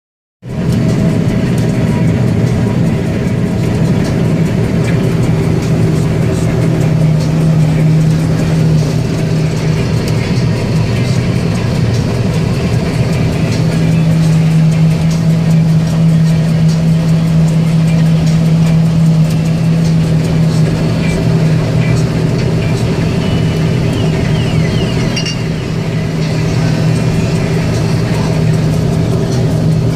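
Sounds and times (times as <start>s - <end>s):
combine harvester drone: 0.4s - 29.9s.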